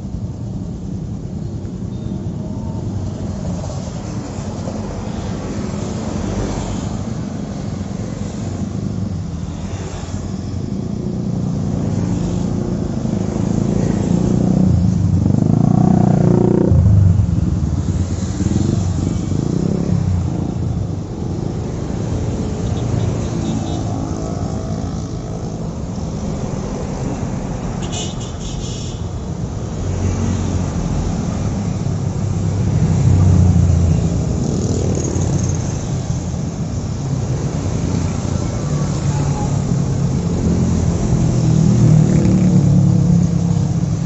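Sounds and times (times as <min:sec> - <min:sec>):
cars passing: 0:00.0 - 0:44.0.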